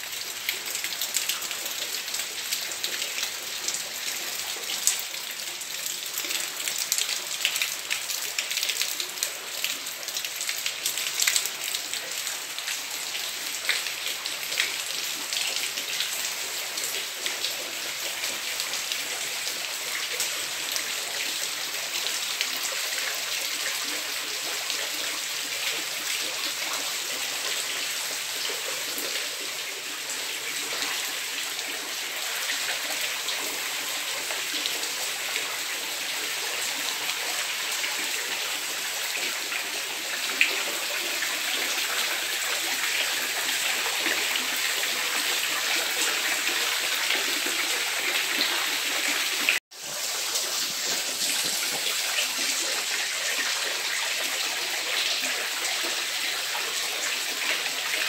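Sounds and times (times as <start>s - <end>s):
rain falling on concrete: 0.0s - 58.0s.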